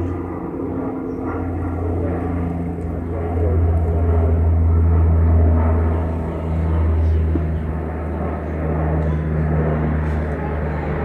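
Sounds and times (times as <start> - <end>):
turboprop engines droning: 0.0 - 11.0.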